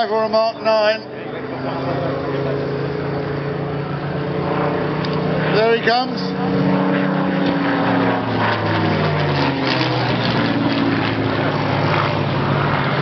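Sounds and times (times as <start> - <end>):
propeller aircraft engine passing: 0.0 - 13.0.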